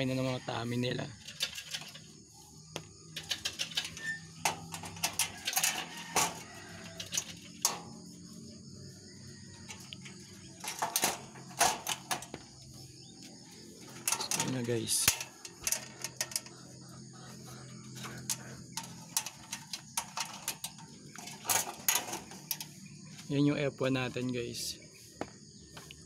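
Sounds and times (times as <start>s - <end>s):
wire cages clicking and rattling: 0.0s - 24.7s.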